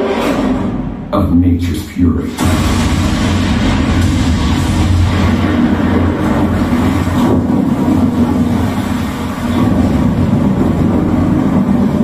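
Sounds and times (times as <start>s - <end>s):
deep subwoofer rumble: 0.4s - 12.0s
rain hiss: 2.3s - 12.0s.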